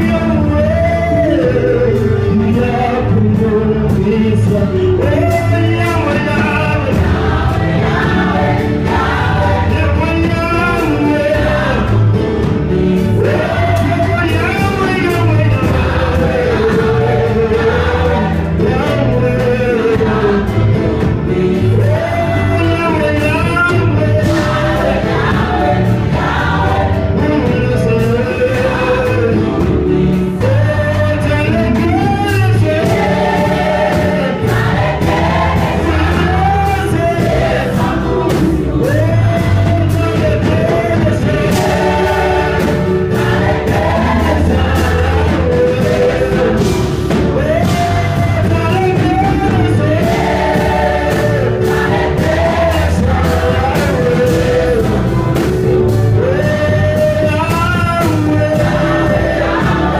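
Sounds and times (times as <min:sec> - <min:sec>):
choir singing gospel song: 0:00.0 - 0:59.9
live band with drum kit: 0:00.0 - 0:59.9.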